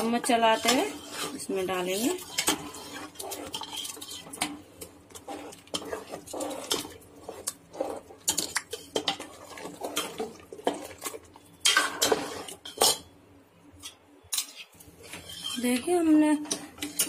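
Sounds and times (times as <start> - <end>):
metal ladle scraping metal pot: 0.0 - 13.0, 14.3 - 15.8.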